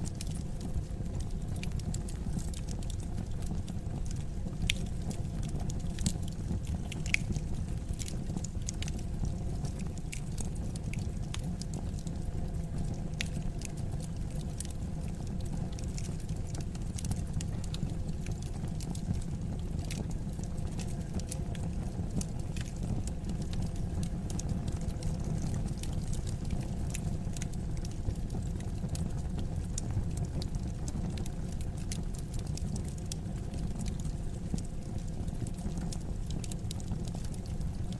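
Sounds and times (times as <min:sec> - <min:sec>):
low rumble of flames: 0:00.0 - 0:37.9
wood fire popping and snapping: 0:00.0 - 0:37.9.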